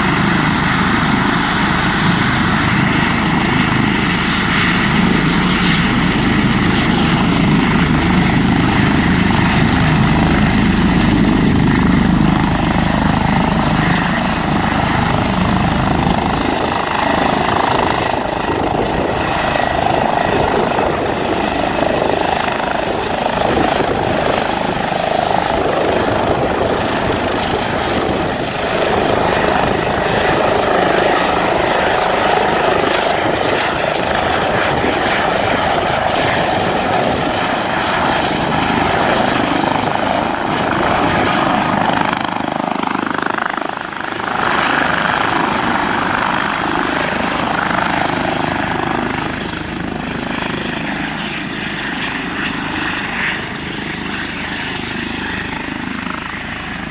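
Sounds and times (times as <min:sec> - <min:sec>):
helicopter rotor whir: 0:00.0 - 0:56.9.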